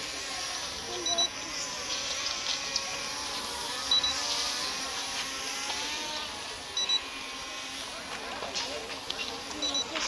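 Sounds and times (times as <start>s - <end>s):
toy drone propellers whirring: 0.0s - 10.0s.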